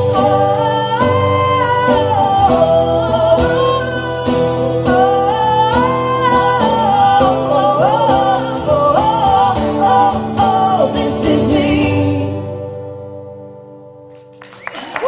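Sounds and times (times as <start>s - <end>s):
women singing in harmony: 0.0s - 12.6s
strummed acoustic guitar: 0.0s - 14.4s.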